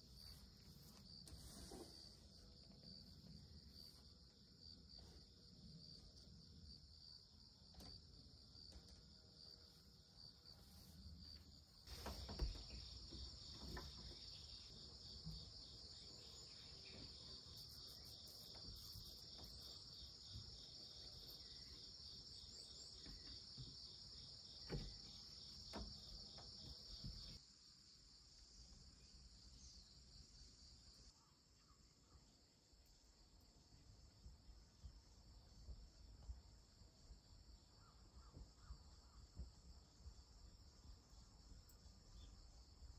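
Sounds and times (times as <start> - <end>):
crickets chirring: 0.0 - 32.4, 33.0 - 42.9.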